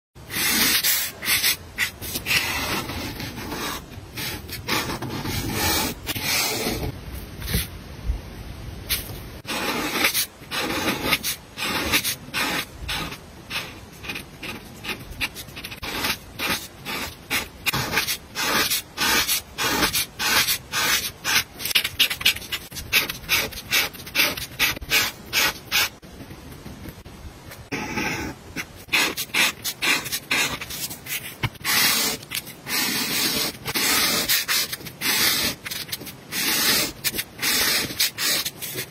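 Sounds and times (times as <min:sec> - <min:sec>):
marker scratching on paper: 0:00.3 - 0:07.7, 0:08.9 - 0:26.0, 0:27.7 - 0:38.9.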